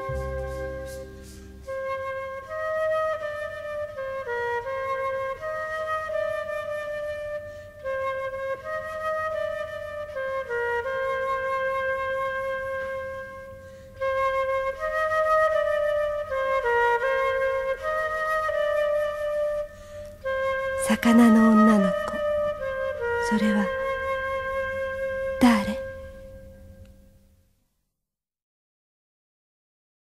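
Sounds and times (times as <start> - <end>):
slow flute melody: 0.0 - 27.3.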